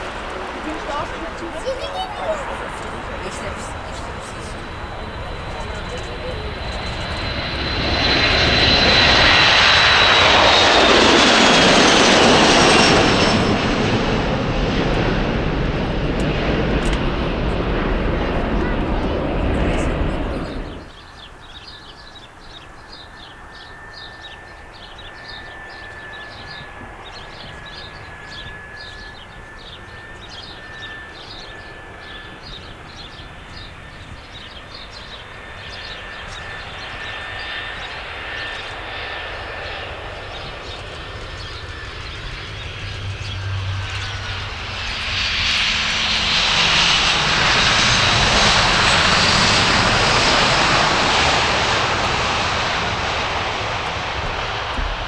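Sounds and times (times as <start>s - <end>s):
aircraft engines whining: 0.0s - 55.0s.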